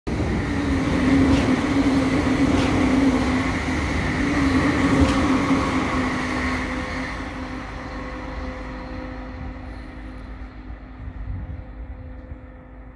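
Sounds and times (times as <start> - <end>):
electric train passing at speed: 0.1 - 12.9.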